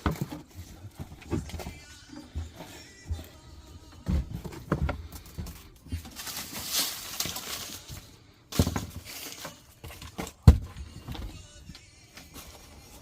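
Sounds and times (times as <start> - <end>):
rustling or scraping: 0.0 - 10.4, 12.1 - 13.0.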